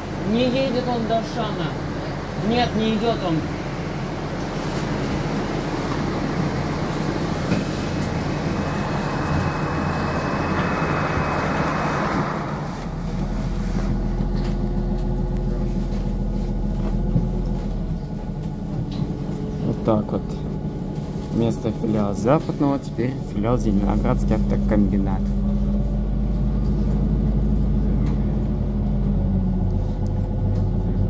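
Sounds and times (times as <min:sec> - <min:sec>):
bus engine and road noise: 0:00.0 - 0:31.0.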